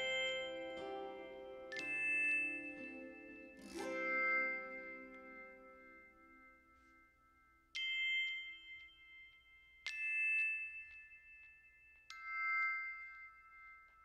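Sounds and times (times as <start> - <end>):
high bell-like chimes: 0.0 - 14.0
music: 0.0 - 14.0.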